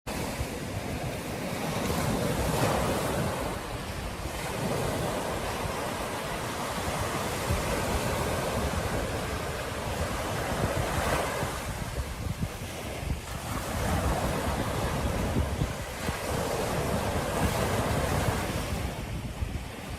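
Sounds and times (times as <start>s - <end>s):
ocean surf washing ashore: 0.1s - 19.9s
wind buffeting microphone: 0.1s - 19.9s.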